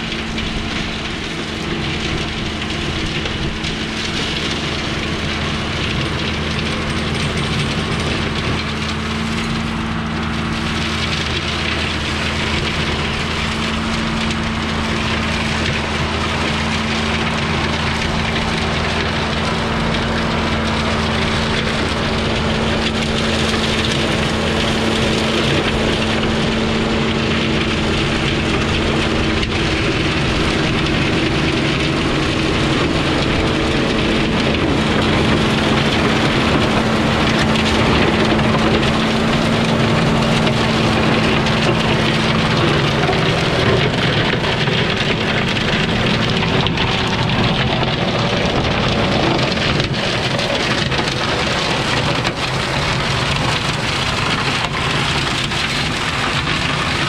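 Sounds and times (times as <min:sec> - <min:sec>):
brush chopper shredding branches: 0:00.0 - 0:57.0
tractor engine drone: 0:00.0 - 0:57.0.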